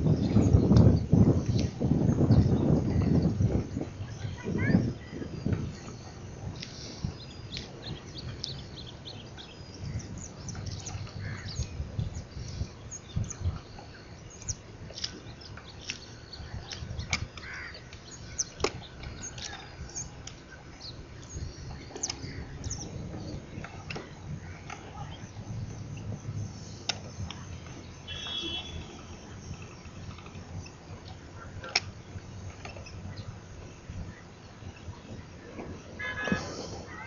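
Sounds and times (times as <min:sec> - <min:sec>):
birds chirping and calling: 0:00.0 - 0:37.0
steady low rumble: 0:00.0 - 0:37.0.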